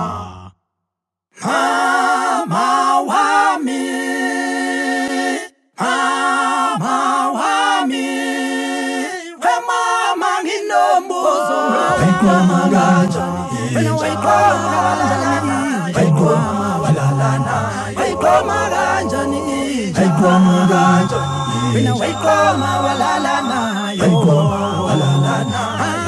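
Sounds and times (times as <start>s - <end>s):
a cappella group singing in harmony: 1.4s - 26.0s.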